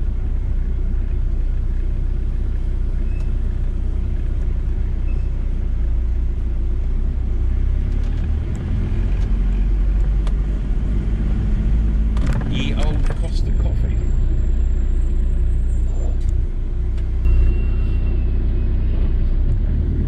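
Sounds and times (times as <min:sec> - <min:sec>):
van engine and road rumble: 0:00.0 - 0:20.0.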